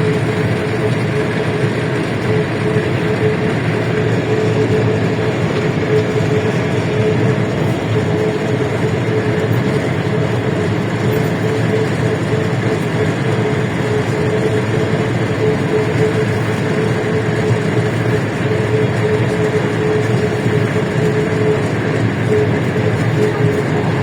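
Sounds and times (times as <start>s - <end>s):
bus engine: 0.0s - 24.0s
constant whine: 0.0s - 24.0s.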